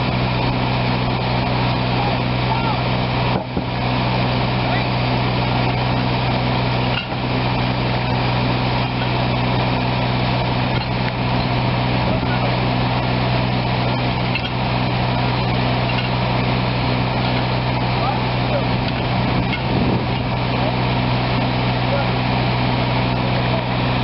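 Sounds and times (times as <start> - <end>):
crane engine droning: 0.0 - 24.0.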